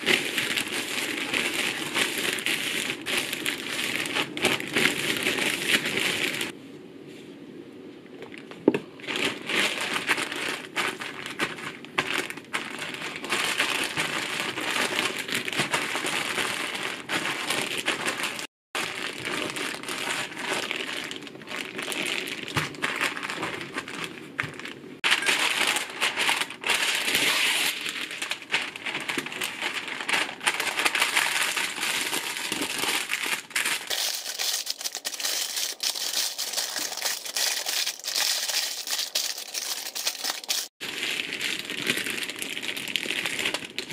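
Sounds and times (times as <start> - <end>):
plastic bag crinkling: 0.0 - 6.6, 8.3 - 43.9.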